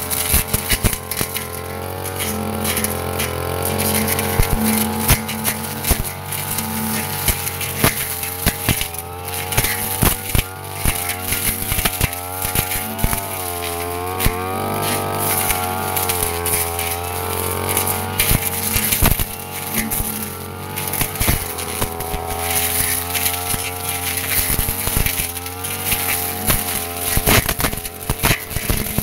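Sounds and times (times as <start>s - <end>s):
blade ticking on stalks: 0.0s - 29.0s
brush cutter engine running: 0.0s - 29.0s.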